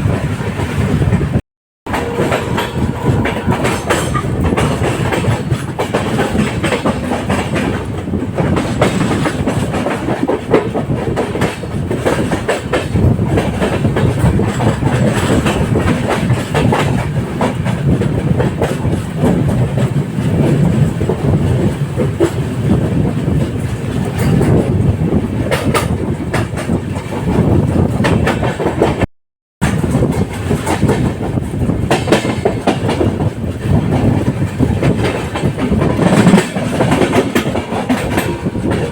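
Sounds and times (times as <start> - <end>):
train rumbling along track: 0.0 - 38.9
wheels clattering over rail joints: 1.9 - 38.9.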